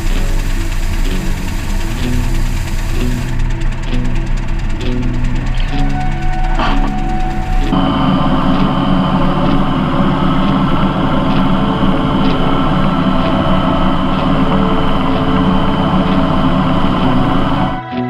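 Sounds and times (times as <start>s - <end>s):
tractor diesel engine running: 0.0s - 17.8s.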